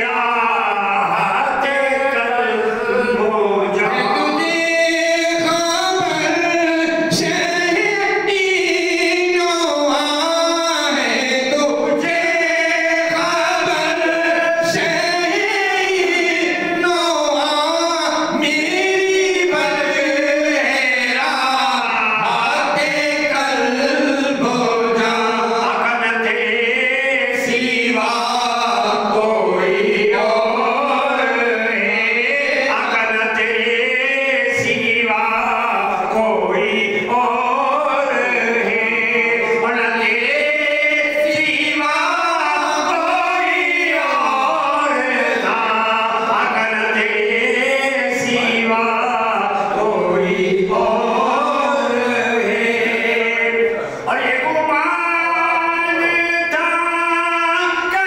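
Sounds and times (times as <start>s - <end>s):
man singing into microphone: 0.0s - 58.0s.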